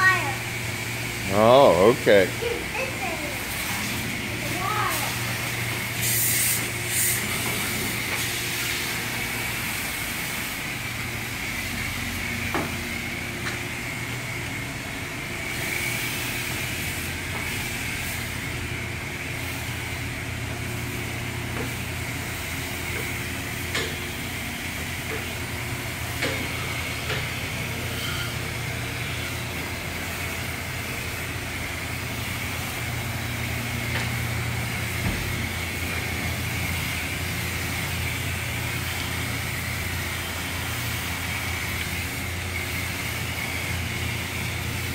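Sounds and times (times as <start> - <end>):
pressure washer spray hissing: 0.0 - 44.9.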